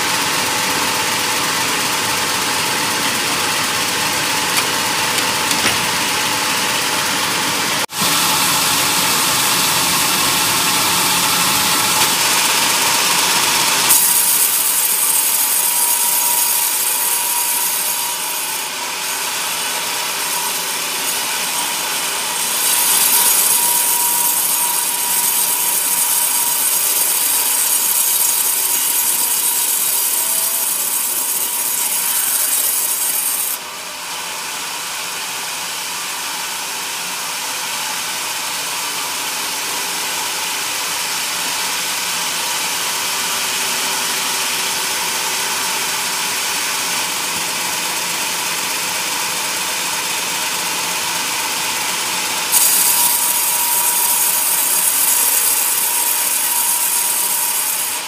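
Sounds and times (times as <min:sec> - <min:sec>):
band saw cutting log: 0:00.0 - 0:36.5, 0:37.3 - 0:58.0.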